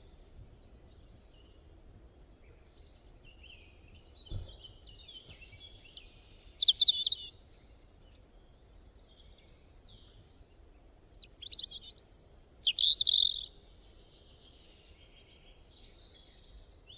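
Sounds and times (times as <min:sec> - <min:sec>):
birds chirping: 0:00.0 - 0:16.9.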